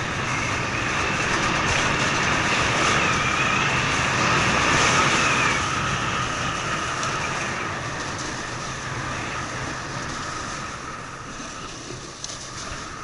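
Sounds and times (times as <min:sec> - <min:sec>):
snowboard scraping over snow: 0:00.0 - 0:13.0.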